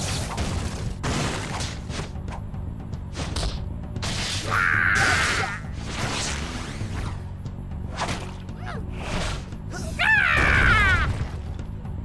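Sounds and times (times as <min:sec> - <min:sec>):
action cartoon music: 0:00.0 - 0:12.0.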